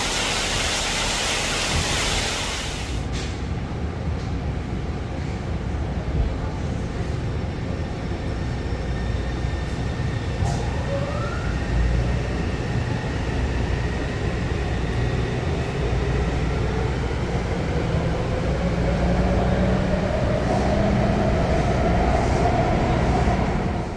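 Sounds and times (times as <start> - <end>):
metro train rumbling: 0.0 - 23.9.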